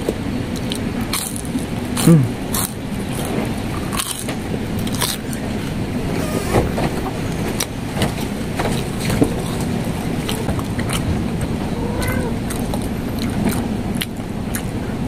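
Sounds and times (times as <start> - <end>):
low background rumble: 0.0 - 15.0
person chewing: 0.5 - 5.4, 7.6 - 14.7.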